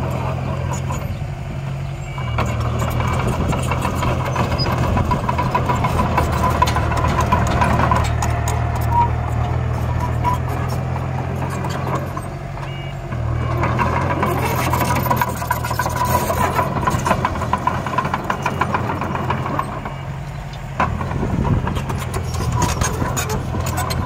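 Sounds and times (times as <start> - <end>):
diesel engine running: 0.0 - 24.0
rattling and clanking: 2.3 - 24.0.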